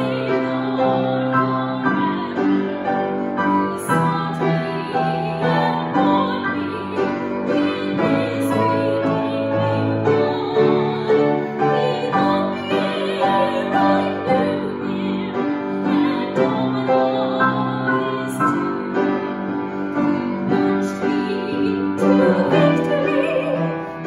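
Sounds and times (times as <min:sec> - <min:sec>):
woman singing a hymn: 0:00.0 - 0:19.3, 0:19.9 - 0:24.0
grand piano: 0:00.0 - 0:24.0.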